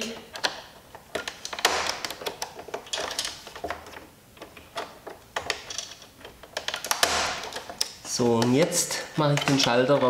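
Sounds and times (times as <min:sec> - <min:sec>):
plastic and metal clicks and scraping: 0:00.0 - 0:10.0
wires rustling: 0:00.0 - 0:10.0.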